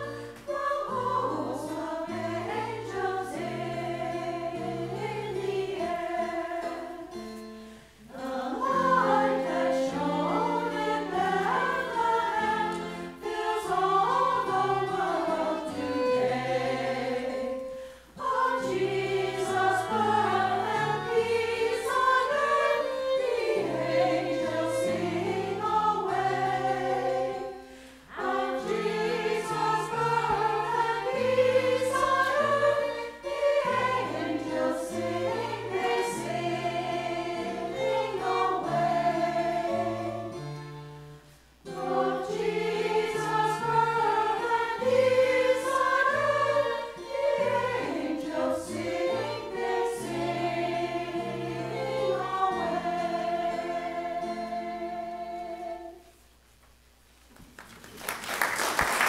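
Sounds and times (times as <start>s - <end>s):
women's choir singing: 0.0s - 7.4s, 8.0s - 40.7s, 41.6s - 56.1s
violin: 0.0s - 56.0s
piano: 0.0s - 56.2s.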